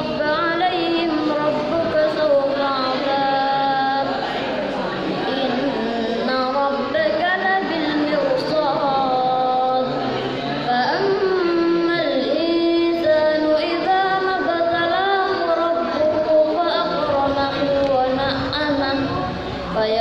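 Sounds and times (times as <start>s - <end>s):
young person chanting melodically: 0.0s - 20.0s.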